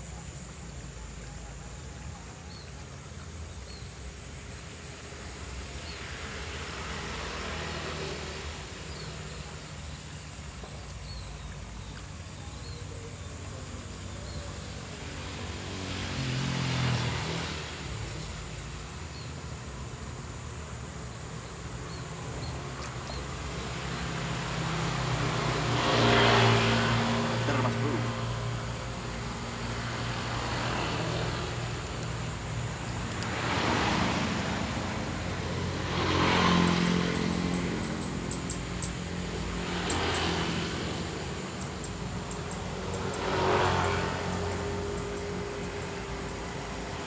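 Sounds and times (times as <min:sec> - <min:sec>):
motor vehicles passing: 0:00.0 - 0:47.0.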